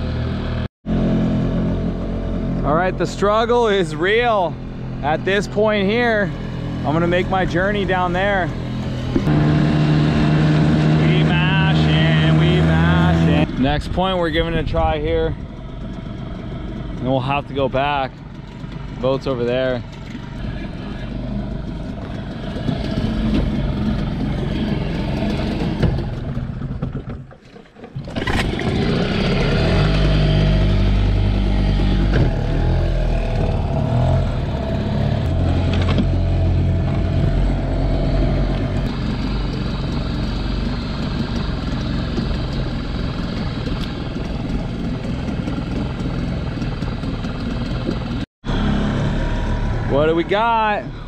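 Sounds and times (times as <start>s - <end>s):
outboard motor droning: 0.0s - 51.0s.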